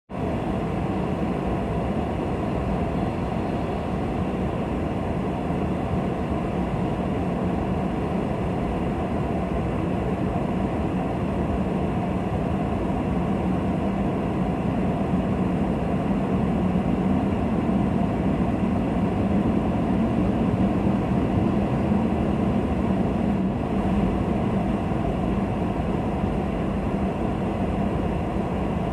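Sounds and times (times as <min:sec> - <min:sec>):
jet engine roar: 0:00.1 - 0:28.9.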